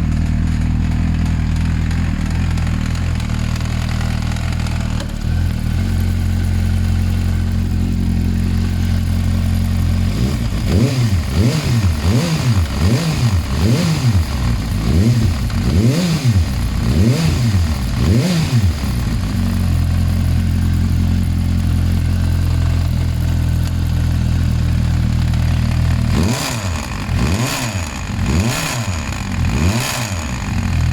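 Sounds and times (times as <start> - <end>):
vehicle engine idling and revving: 0.0 - 30.9.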